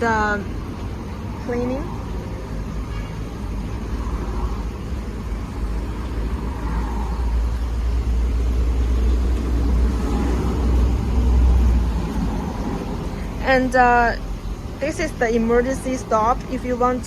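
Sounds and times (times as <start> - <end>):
low hum: 0.0 - 17.0
water spraying: 0.0 - 17.0.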